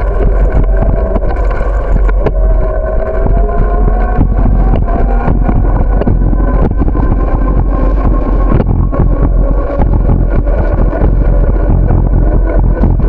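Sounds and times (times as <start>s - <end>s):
bicycle rattling over pavement bumps: 0.0s - 13.0s
steady whine: 0.0s - 13.0s
wind buffeting microphone: 0.0s - 13.0s.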